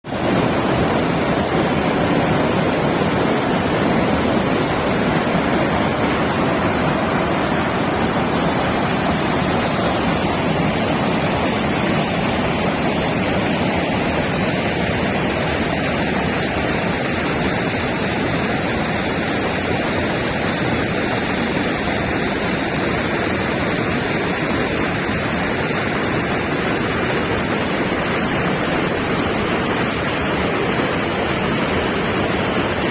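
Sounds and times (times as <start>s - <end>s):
rushing water: 0.0s - 32.9s.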